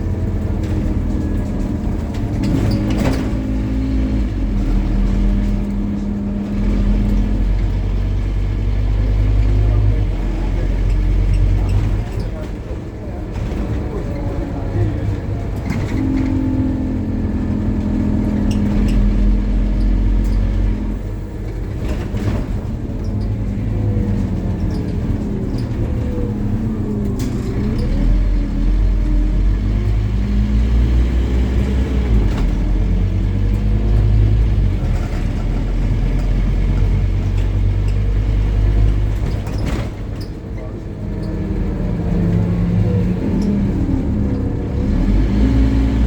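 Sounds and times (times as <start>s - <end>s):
bus diesel engine drone: 0.0s - 46.0s.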